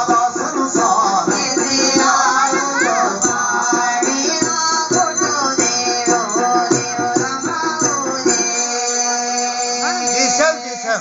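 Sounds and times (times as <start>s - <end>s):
hand percussion beat: 0.0s - 11.0s
people singing: 0.0s - 11.0s.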